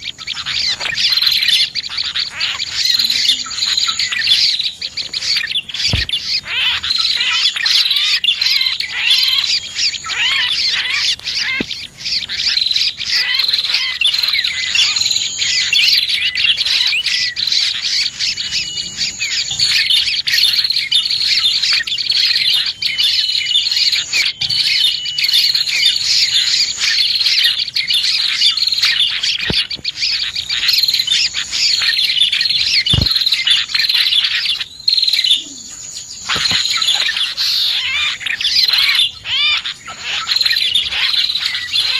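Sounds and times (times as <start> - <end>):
small birds chirping and twittering: 0.0 - 41.9.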